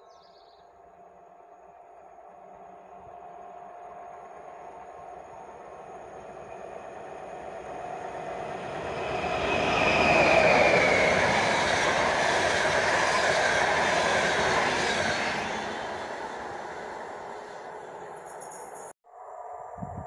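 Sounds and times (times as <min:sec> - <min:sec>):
train passing at speed: 0:00.6 - 0:20.0
locomotive high whine: 0:00.7 - 0:18.8
train wheels rushing on rails: 0:02.2 - 0:18.8.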